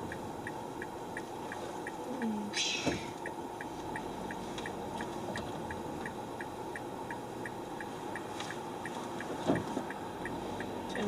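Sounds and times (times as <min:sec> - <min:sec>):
car cabin hum: 0:00.0 - 0:11.0
turn signal ticking: 0:00.0 - 0:11.0.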